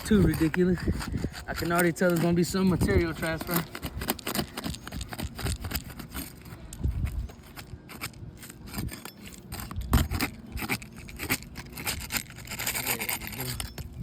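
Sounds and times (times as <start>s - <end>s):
scraper scraping under roof shingles: 0.0s - 14.0s.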